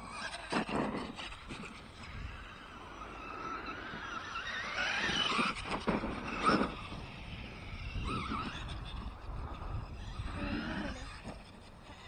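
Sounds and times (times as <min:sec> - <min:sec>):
electric toy truck motor whining: 0:00.0 - 0:12.0.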